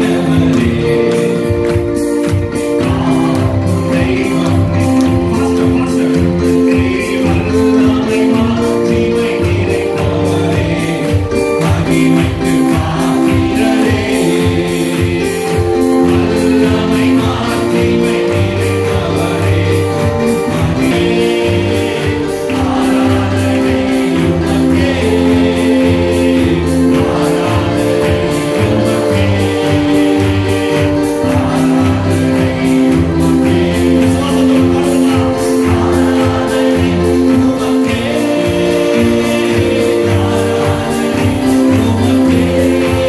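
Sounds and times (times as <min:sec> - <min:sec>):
man singing: 0:00.0 - 0:43.0
steady drum beat: 0:00.0 - 0:43.0
sustained keyboard chords: 0:00.0 - 0:43.0.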